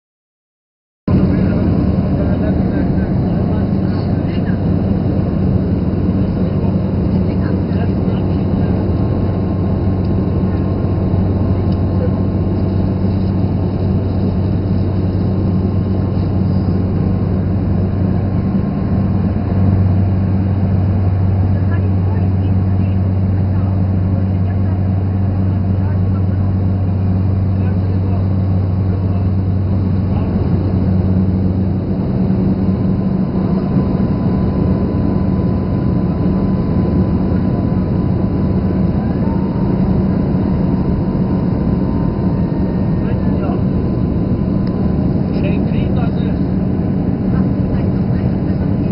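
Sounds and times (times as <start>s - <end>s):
constant low hum: 1.1s - 48.9s
turboprop engine drone in cabin: 1.1s - 48.9s.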